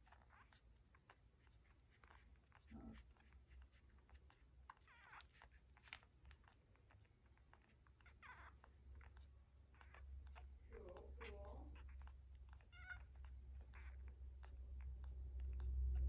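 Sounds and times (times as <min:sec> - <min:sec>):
high puppy squeaks: 0:00.0 - 0:16.0
puppies suckling clicks: 0:00.0 - 0:16.0.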